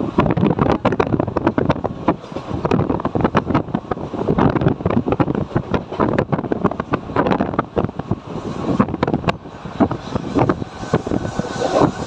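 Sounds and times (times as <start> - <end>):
moving train rushing: 0.0 - 12.0
wind buffeting microphone: 0.0 - 12.0.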